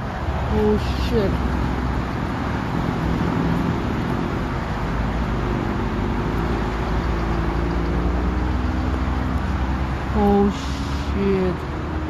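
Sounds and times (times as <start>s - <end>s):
passing vehicle engine hum: 0.0s - 12.0s
road traffic rumble: 0.0s - 12.0s.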